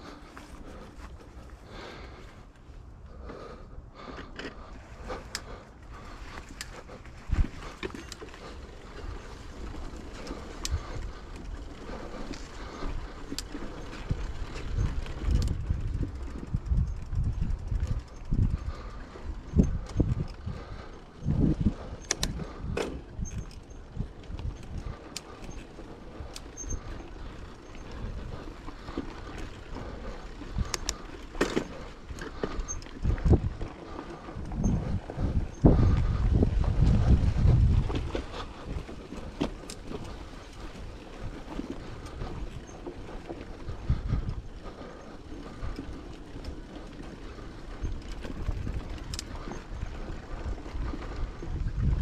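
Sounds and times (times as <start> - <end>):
bicycle clicks and rattles: 0.0 - 52.0
wind buffeting microphone: 4.7 - 52.0.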